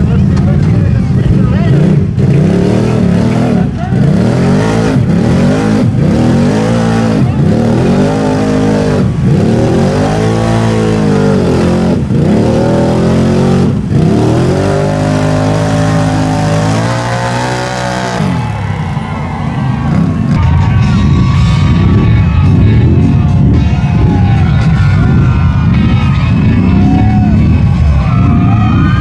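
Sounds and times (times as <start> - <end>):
atv engine revving: 0.0 - 29.0
tires churning through mud: 0.0 - 29.0.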